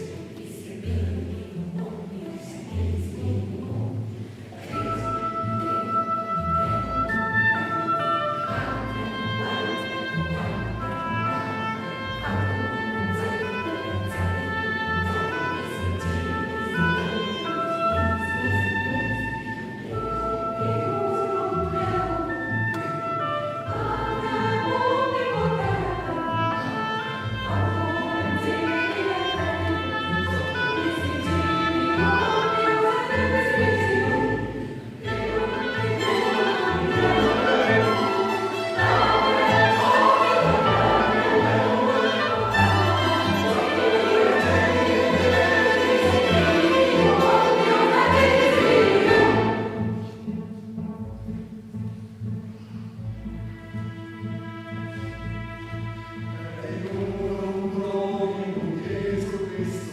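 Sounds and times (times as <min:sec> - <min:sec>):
mixed choir singing: 0:00.0 - 0:22.6, 0:23.5 - 0:50.1
strings holding chords: 0:00.0 - 0:59.7
quiet instrumental music: 0:00.0 - 0:59.9.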